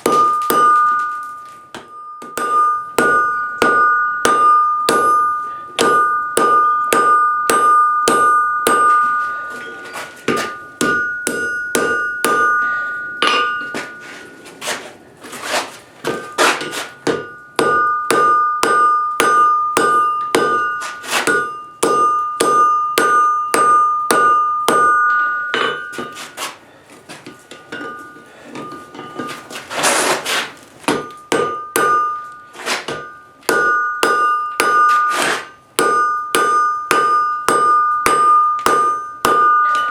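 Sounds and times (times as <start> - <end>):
hammer striking steel on anvil: 0.0 - 14.8, 16.0 - 26.6, 27.2 - 30.0, 30.9 - 39.9.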